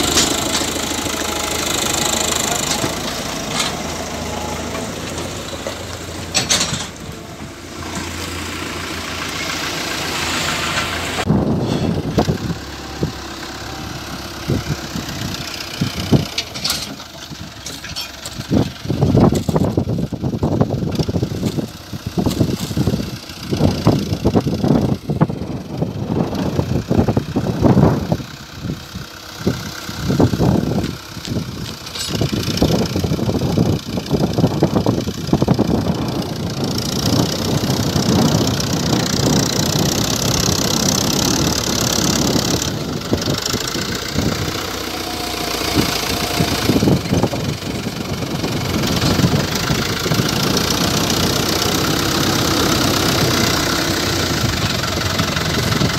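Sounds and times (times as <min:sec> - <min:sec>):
diesel tractor engines running: 0:00.0 - 0:55.9.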